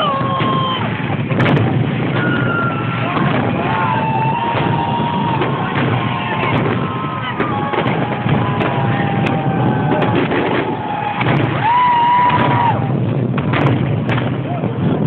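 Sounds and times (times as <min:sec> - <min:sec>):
rising firework whistle: 0:00.0 - 0:13.0
fireworks bursting and crackling: 0:00.0 - 0:15.0
steady background din: 0:00.0 - 0:15.0.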